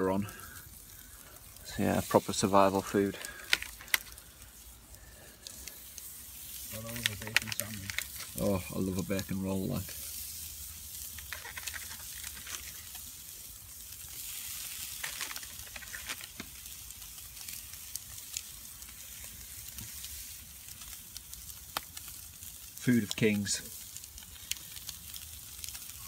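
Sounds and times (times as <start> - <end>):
bacon sizzling: 0.0 - 26.0
embers popping and crackling: 0.0 - 26.0.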